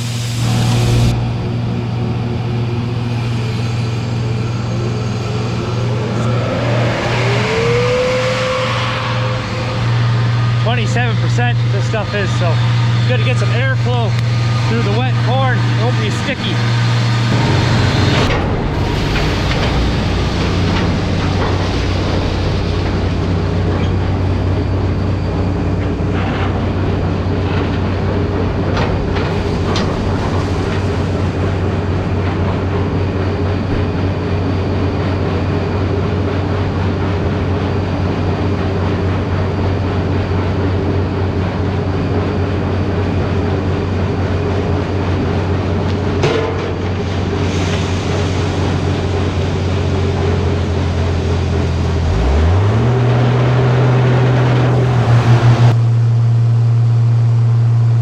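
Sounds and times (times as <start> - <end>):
large machine humming: 0.0 - 58.0.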